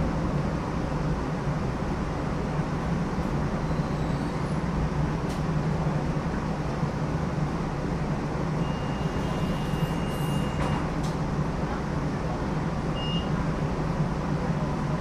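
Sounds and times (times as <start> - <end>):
streetcar rumbling along track: 0.0 - 15.0.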